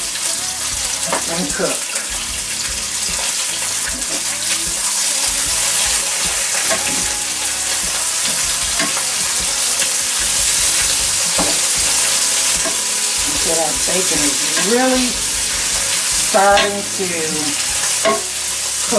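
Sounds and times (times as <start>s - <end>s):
bacon sizzling: 0.0s - 18.9s.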